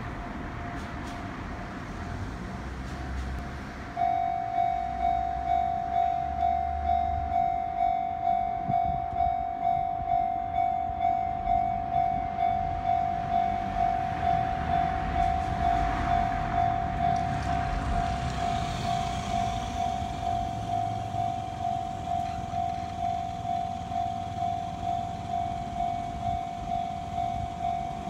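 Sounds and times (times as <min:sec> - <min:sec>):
level crossing bell ringing: 0:04.0 - 0:28.0.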